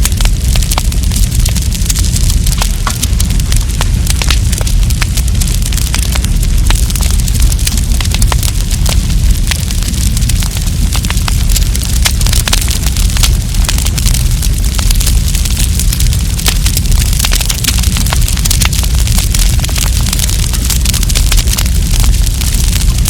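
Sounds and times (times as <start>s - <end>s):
campfire crackling and popping: 0.0s - 23.0s
steady low rumble: 0.0s - 23.0s.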